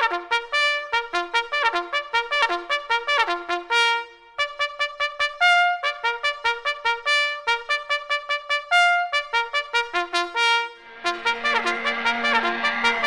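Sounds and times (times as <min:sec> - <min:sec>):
fast brass instrument tune: 0:00.0 - 0:13.0.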